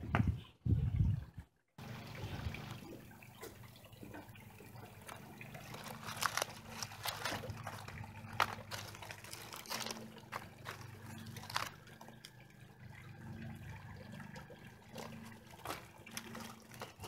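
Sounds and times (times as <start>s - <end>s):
steady low hum: 1.8s - 17.0s.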